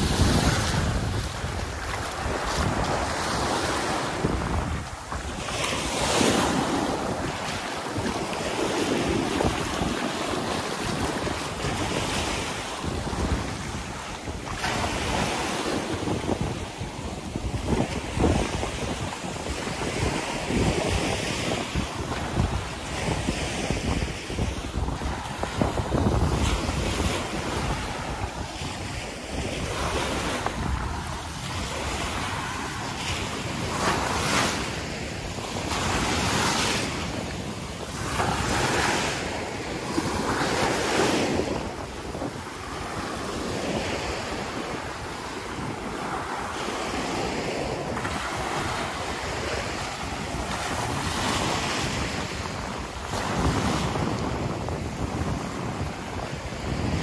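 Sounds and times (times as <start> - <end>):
small waves breaking on beach: 0.0 - 57.0
wind buffeting microphone: 0.0 - 57.0.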